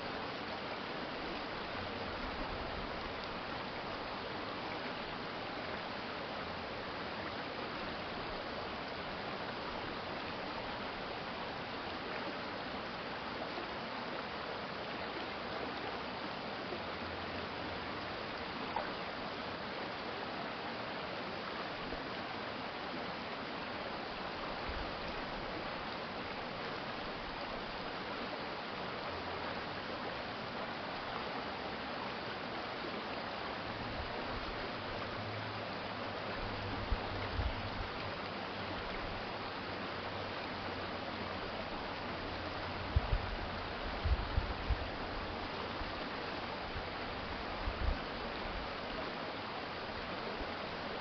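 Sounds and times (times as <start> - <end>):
stream water flowing: 0.0 - 51.0.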